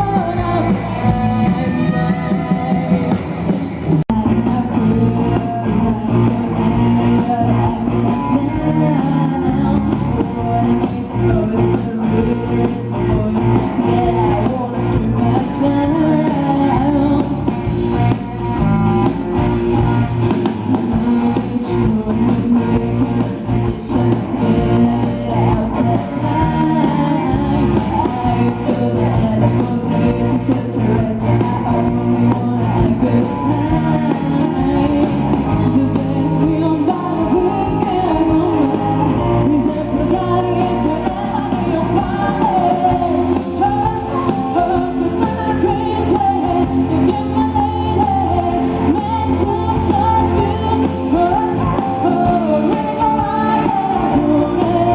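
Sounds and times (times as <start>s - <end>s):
person singing: 0.0s - 54.9s
rock guitar music: 0.0s - 54.9s.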